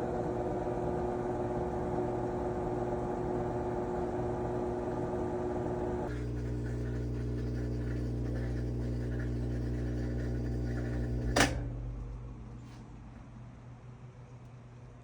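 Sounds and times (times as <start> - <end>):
washer motor humming: 0.0 - 12.8.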